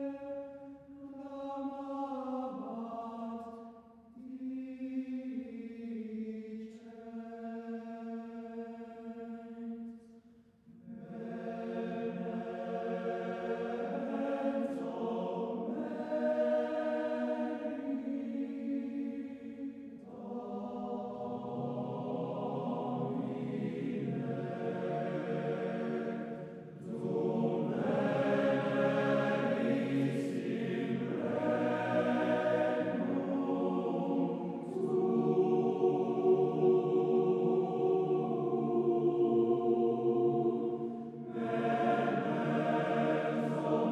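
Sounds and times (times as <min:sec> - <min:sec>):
choir singing long held notes: 0:00.0 - 0:10.0, 0:10.7 - 0:43.9.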